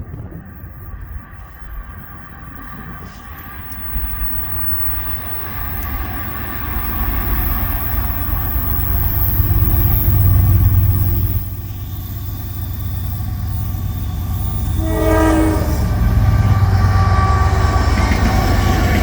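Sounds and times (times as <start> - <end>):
diesel locomotive engine rumble: 0.0 - 19.0.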